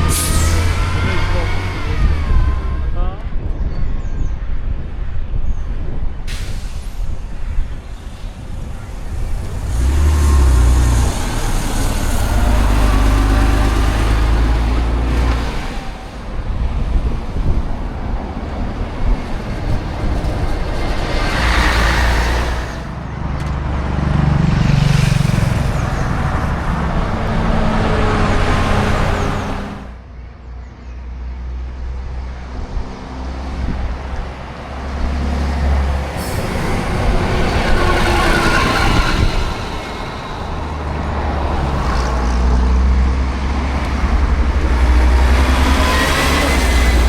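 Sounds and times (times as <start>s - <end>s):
bus diesel engines passing: 0.0s - 47.0s.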